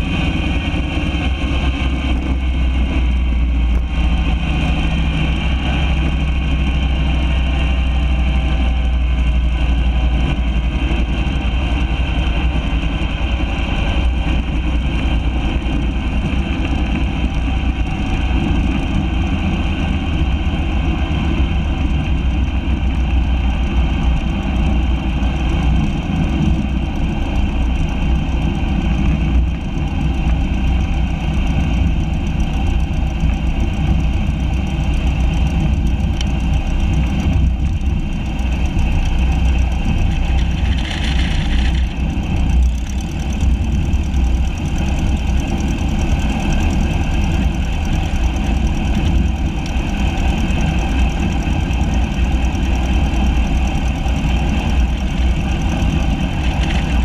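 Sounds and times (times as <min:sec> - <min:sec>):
airplane engine and propeller: 0:00.0 - 0:57.0
deep steady rumble: 0:00.0 - 0:57.0.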